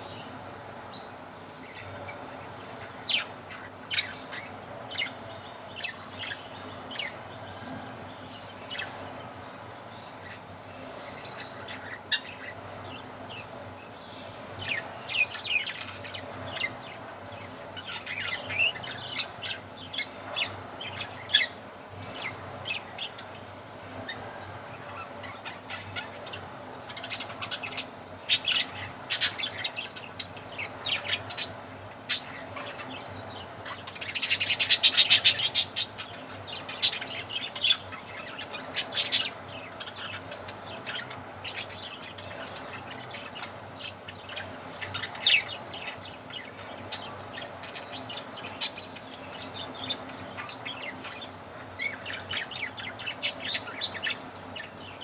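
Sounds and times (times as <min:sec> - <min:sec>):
budgerigars chirping: 0:01.0 - 0:07.2, 0:11.0 - 0:13.5, 0:14.2 - 0:23.4, 0:24.1 - 0:55.0.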